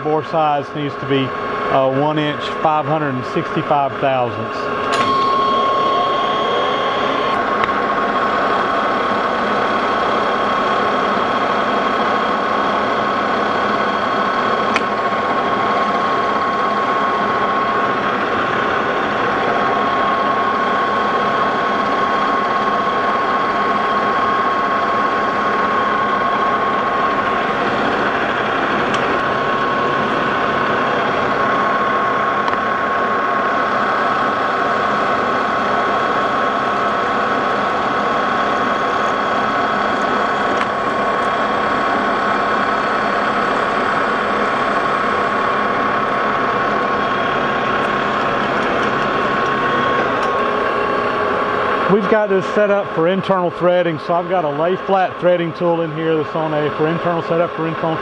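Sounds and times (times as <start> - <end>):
metal lathe running: 0.0 - 58.0
steady cutting whine: 0.0 - 58.0.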